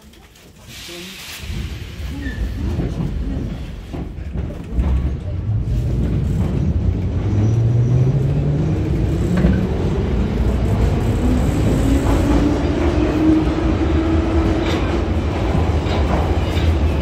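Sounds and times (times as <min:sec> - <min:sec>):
wheels rumbling on rails: 0:01.4 - 0:17.0.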